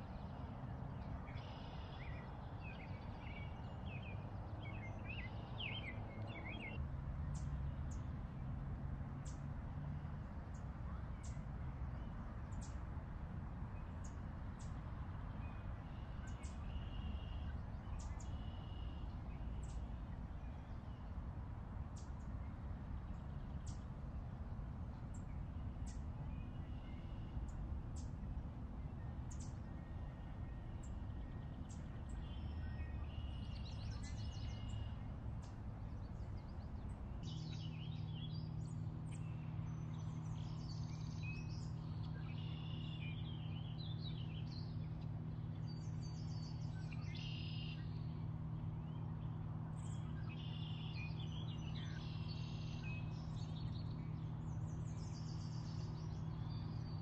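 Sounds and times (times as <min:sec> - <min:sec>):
small birds singing and chirping: 0:00.0 - 0:08.3, 0:10.5 - 0:12.9, 0:13.6 - 0:57.0
low background hum: 0:00.0 - 0:57.0.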